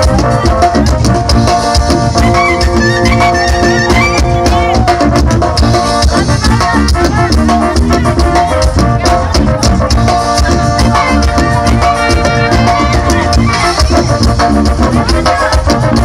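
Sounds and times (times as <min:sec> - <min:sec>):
brass band playing: 0:00.0 - 0:16.0
drums: 0:00.0 - 0:16.0.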